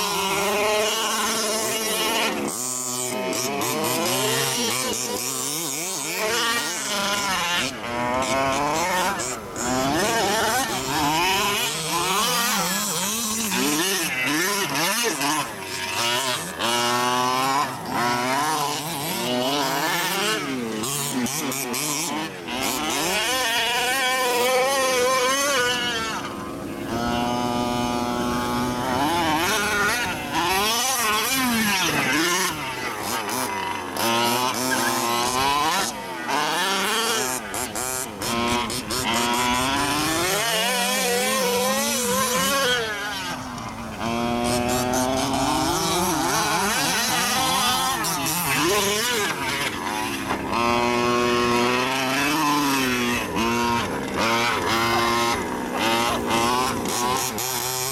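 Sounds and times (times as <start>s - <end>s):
small two-stroke engine revving: 0.0s - 57.9s.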